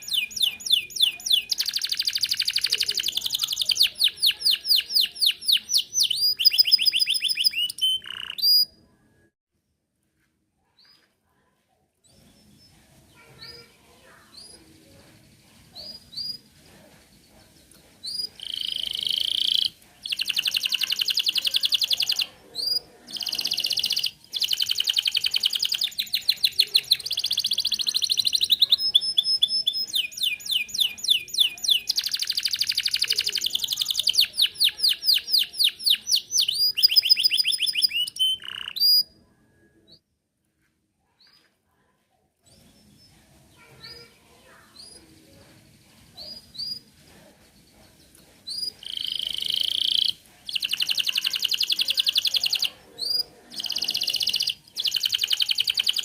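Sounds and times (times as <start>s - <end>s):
canary singing trills: 0.0s - 8.9s, 12.0s - 40.0s, 47.6s - 56.0s.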